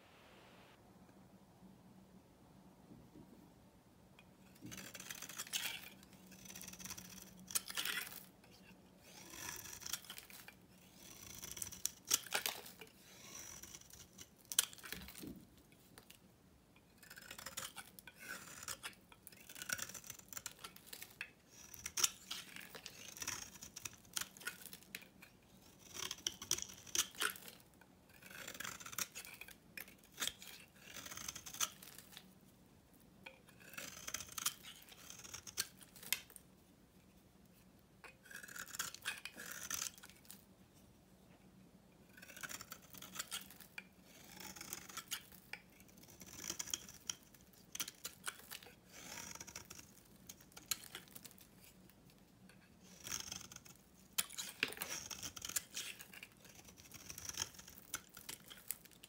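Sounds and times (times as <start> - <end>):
knife blade scraping soap: 4.4 - 32.4, 33.2 - 36.5, 37.5 - 40.4, 42.0 - 59.0.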